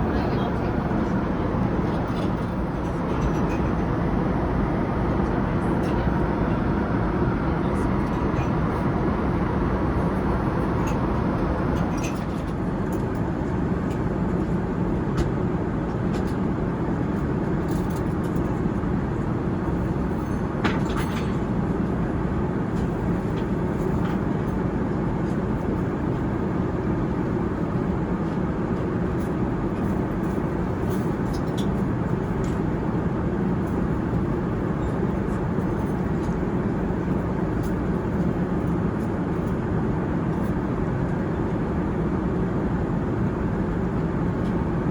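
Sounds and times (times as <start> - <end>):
airliner cabin engine rush: 0.0 - 44.9.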